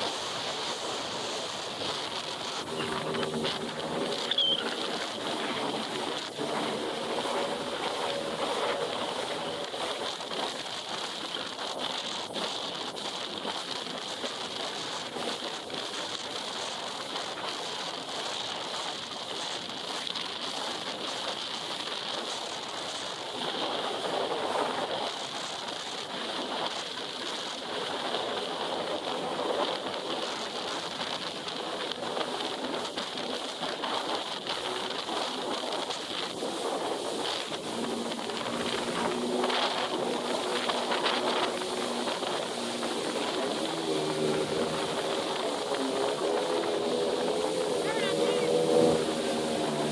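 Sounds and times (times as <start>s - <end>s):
jet ski engine: 0.0s - 49.9s
water rushing around hull: 0.0s - 49.9s.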